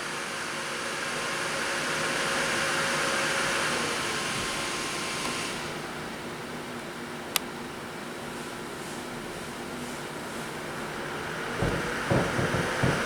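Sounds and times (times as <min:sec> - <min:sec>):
computer fans whirring: 0:00.0 - 0:13.0.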